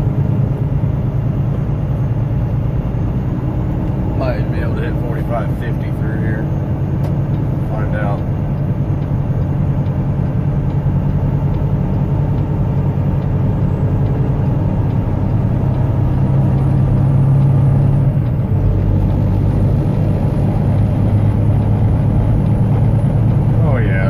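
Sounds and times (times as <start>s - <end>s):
truck diesel engine pulling: 0.0s - 24.0s.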